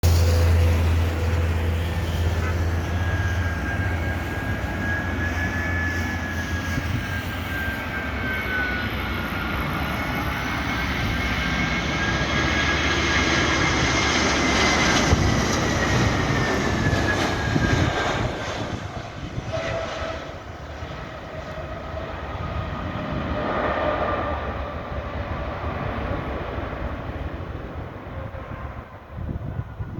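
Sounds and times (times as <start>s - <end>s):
jet engines roaring and whining: 0.0s - 29.9s.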